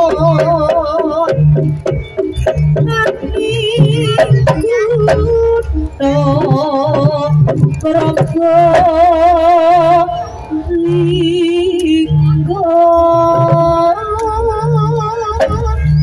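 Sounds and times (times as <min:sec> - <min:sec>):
drum and gong beat: 0:00.0 - 0:16.0
wavering lead melody: 0:00.0 - 0:16.0.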